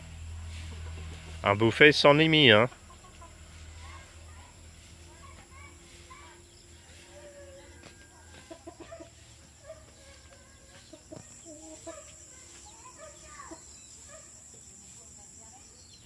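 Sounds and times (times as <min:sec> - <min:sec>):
chickens clucking: 0:00.4 - 0:15.1.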